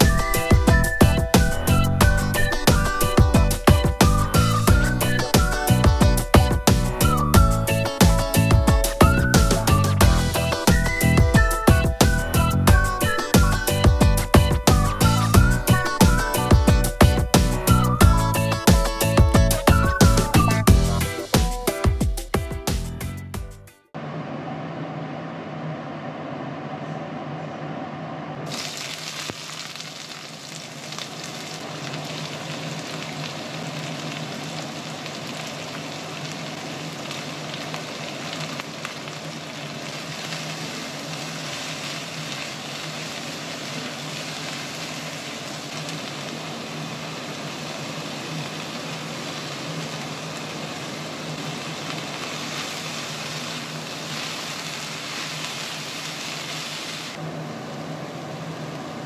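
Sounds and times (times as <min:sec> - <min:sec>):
vegetables sizzling in a wok: 0:00.0 - 0:21.4, 0:28.5 - 0:57.2.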